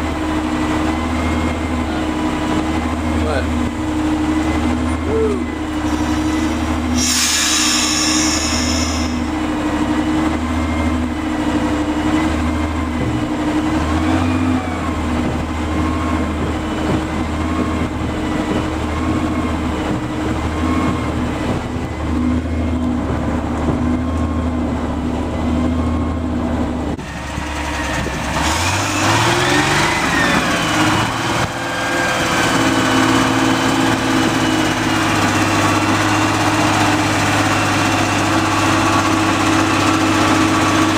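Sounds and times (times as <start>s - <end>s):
locomotive engine running: 0.0s - 40.9s.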